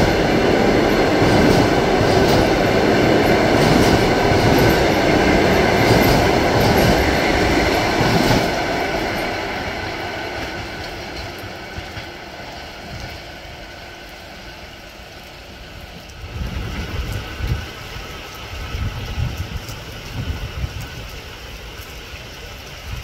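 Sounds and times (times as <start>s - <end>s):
train wheels rolling on rails: 0.0s - 23.0s.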